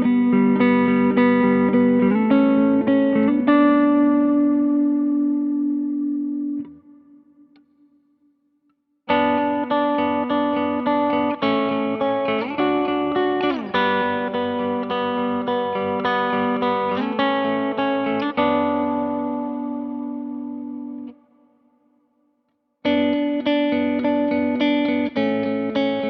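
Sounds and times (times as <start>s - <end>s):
electric guitar notes and chords: 0.0s - 8.1s, 9.1s - 21.6s, 22.8s - 26.0s.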